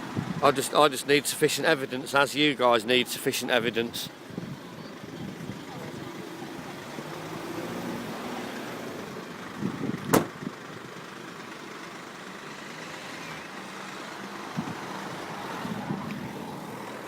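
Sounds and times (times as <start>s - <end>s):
engine running: 3.1s - 17.0s.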